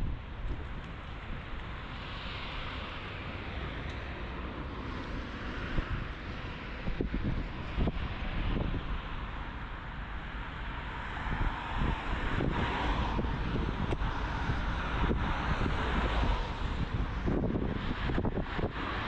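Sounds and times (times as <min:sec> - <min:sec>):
car tyre and engine noise: 0:00.0 - 0:19.0
street traffic passing: 0:00.0 - 0:19.0
wind buffeting microphone: 0:00.0 - 0:19.0.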